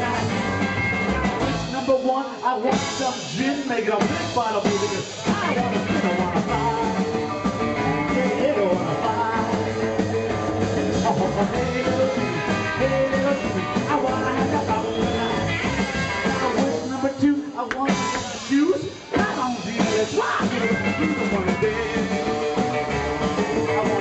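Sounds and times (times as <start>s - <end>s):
man singing lead: 0.0s - 0.8s, 1.4s - 24.0s
drum kit: 0.0s - 24.0s
upright bass: 0.0s - 24.0s.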